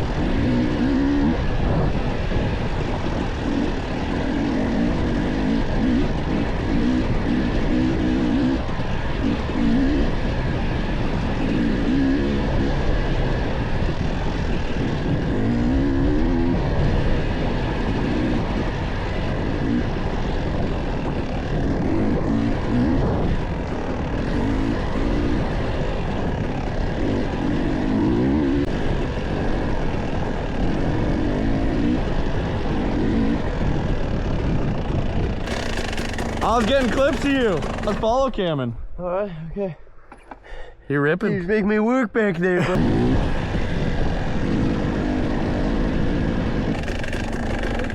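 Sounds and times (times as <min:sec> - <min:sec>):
dirt bike engine revving: 0:00.0 - 0:38.6, 0:42.4 - 0:47.9.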